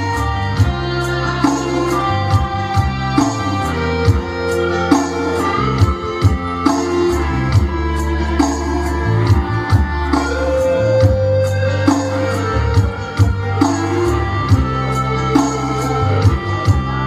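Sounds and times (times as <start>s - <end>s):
electronic keyboard music: 0.0s - 17.0s.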